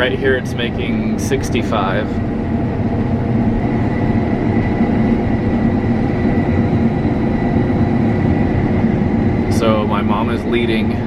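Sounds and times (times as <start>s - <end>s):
combine harvester drone: 0.0s - 11.0s
high steady whine: 0.0s - 11.0s.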